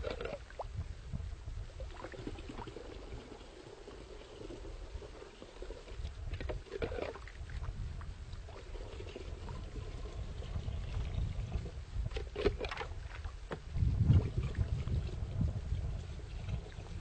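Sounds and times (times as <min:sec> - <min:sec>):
wind rumble on microphone: 0:00.0 - 0:17.0
water splashing: 0:01.8 - 0:15.4.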